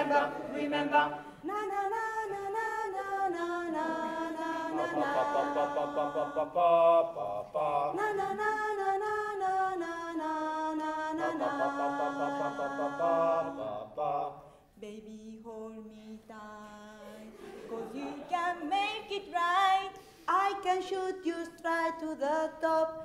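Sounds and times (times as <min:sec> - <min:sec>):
voices singing in harmony: 0:00.0 - 0:23.0.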